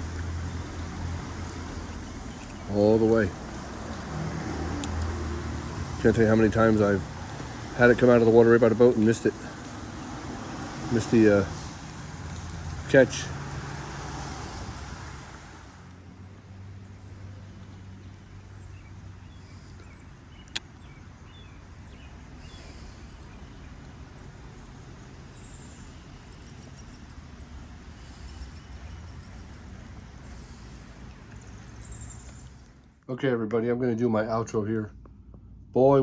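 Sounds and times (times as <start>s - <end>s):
outdoor background rumble: 0.0s - 36.0s.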